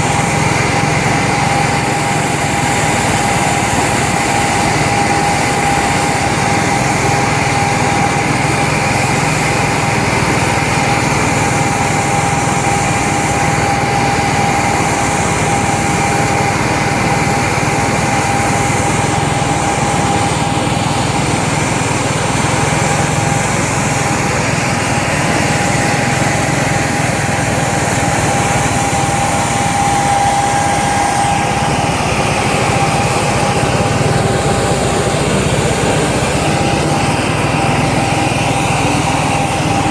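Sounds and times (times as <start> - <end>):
small engine whining: 0.0 - 39.9.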